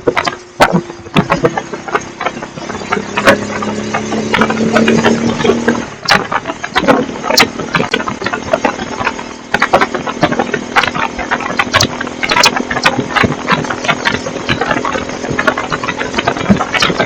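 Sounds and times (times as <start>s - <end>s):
exhaust crackles and knocks: 0.0s - 17.0s
motorcycle engine idling: 0.0s - 17.0s.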